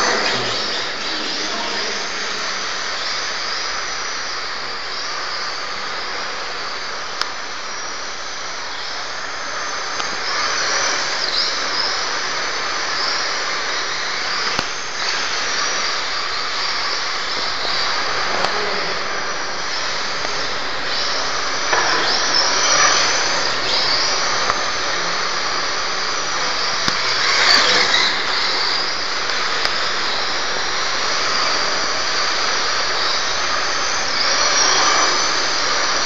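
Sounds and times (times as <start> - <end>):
rc car hiss and whine: 0.0 - 36.0.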